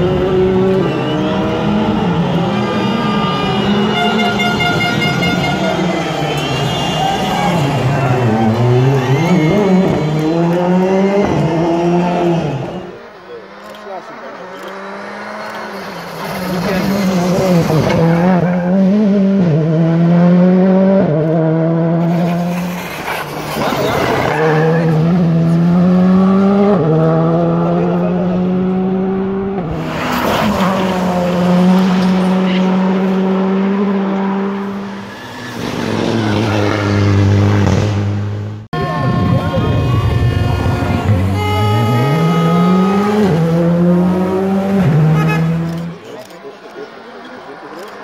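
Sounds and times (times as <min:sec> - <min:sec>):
rally cars accelerating: 0:00.0 - 0:48.0.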